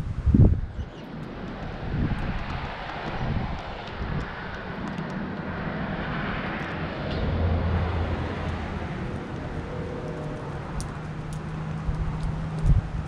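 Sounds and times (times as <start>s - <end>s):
distant engine drone passing: 0.1s - 13.0s.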